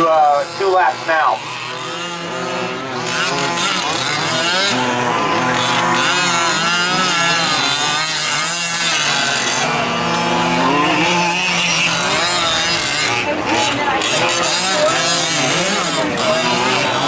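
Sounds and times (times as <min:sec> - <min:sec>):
small two-stroke engines racing: 0:00.0 - 0:17.0.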